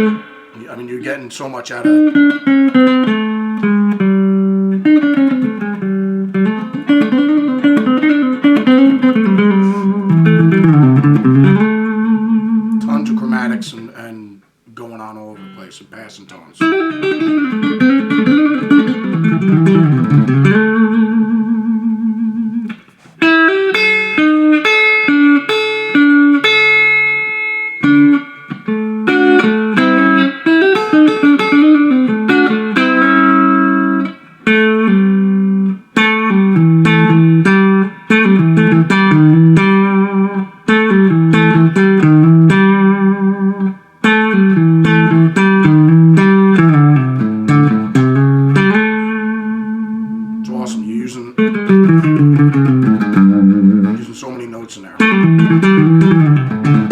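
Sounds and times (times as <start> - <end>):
electric guitar country licks: 0.0 - 56.9.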